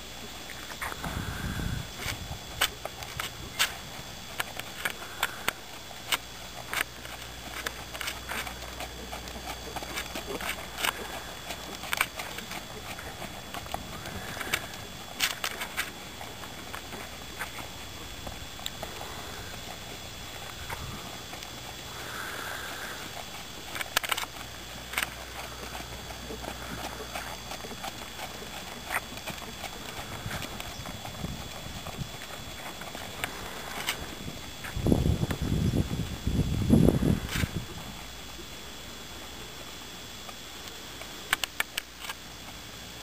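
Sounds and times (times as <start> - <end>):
sharp hoof clicks: 0.5 - 36.2
horse hoofbeats in sand: 0.7 - 23.7, 24.3 - 40.2.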